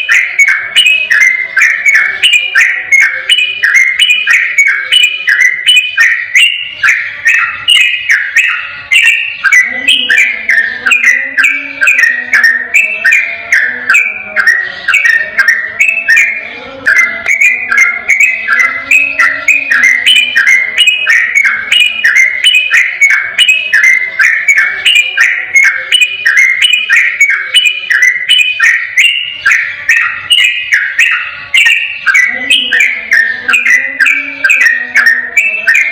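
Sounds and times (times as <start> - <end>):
bird singing liquid notes: 0.0 - 35.9.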